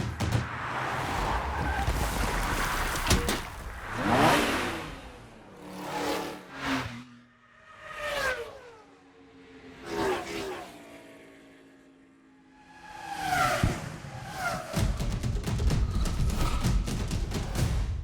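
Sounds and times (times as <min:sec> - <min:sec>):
cars passing at speed: 0:00.0 - 0:15.0.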